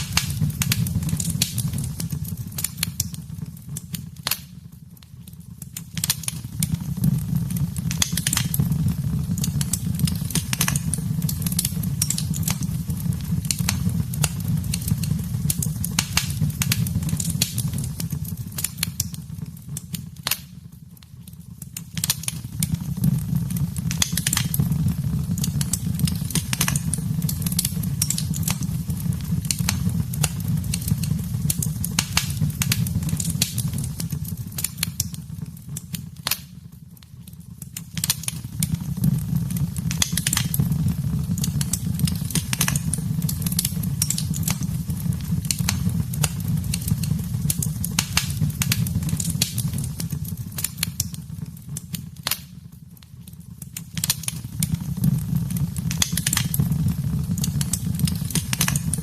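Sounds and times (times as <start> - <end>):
low rumble of flames: 0.0 - 59.0
sharp pops and snaps: 0.0 - 59.0
wood fire crackling: 0.0 - 59.0.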